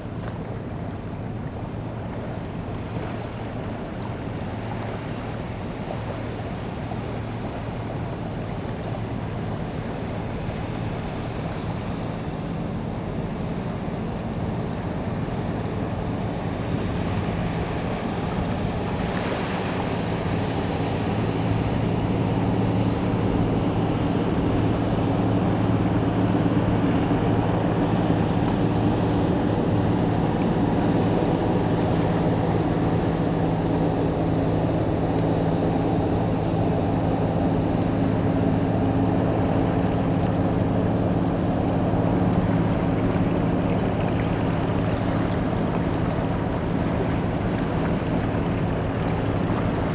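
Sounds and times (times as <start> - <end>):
ship diesel engine droning: 0.0 - 49.9
wave wash: 0.0 - 49.9.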